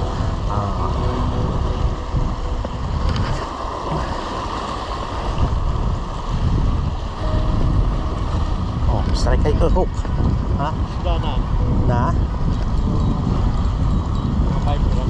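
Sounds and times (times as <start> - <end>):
waves washing against concrete: 0.0 - 15.0
wind buffeting microphone: 0.0 - 15.0.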